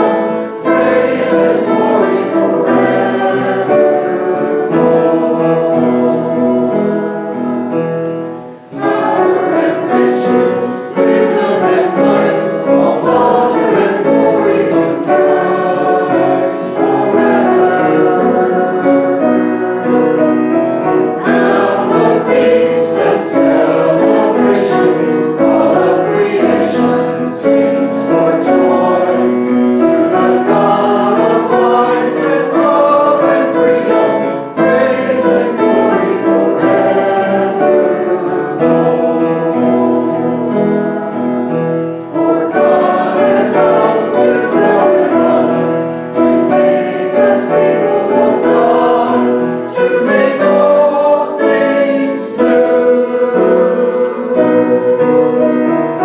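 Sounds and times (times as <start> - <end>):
group singing a hymn: 0.0 - 56.0
instrumental accompaniment: 0.0 - 56.0.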